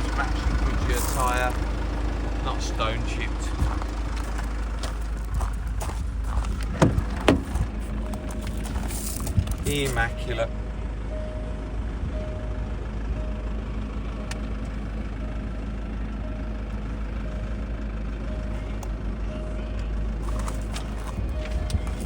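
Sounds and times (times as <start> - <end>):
vehicle idling rumble: 0.0 - 22.0.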